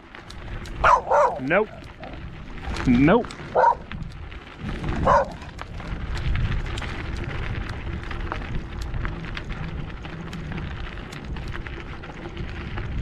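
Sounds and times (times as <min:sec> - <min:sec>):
bicycle tyres on gravel: 0:00.0 - 0:13.0
wind rumble on microphone: 0:00.0 - 0:13.0.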